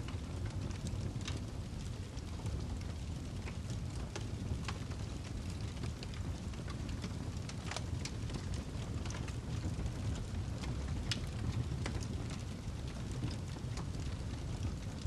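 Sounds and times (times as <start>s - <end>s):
low rumble of burning log: 0.0s - 15.0s
wood fire crackling and popping: 0.0s - 15.0s.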